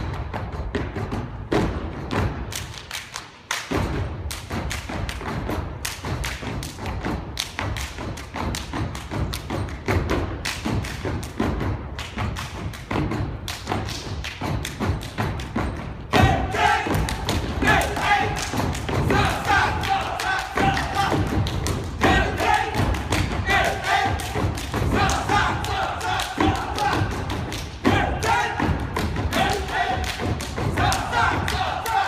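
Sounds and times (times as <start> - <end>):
rhythmic stomping and clapping: 0.0 - 32.0.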